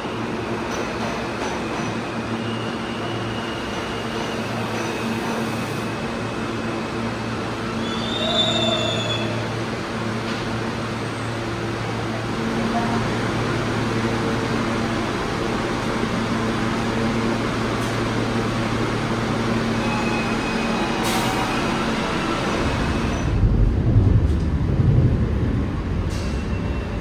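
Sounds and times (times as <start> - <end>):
train rumble: 0.0 - 27.0.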